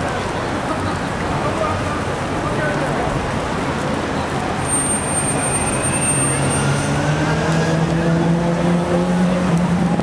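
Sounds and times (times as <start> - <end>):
traffic: 0.0 - 10.0
vehicle engine hum: 0.0 - 10.0.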